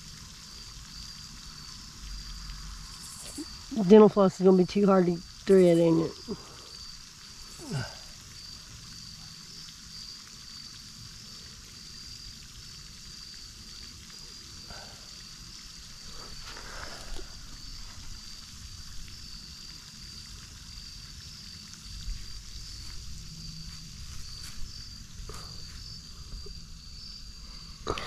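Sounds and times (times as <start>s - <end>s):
high-pitched insect buzz: 0.0s - 28.0s.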